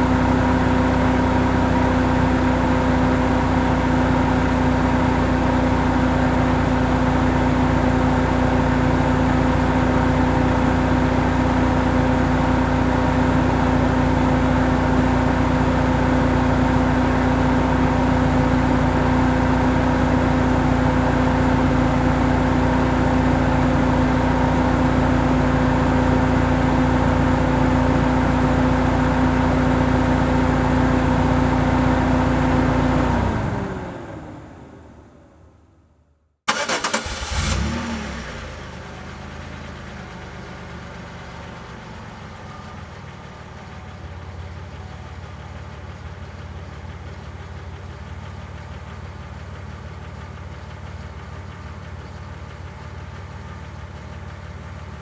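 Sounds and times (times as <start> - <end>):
car engine idling: 0.0 - 35.7, 36.5 - 55.0.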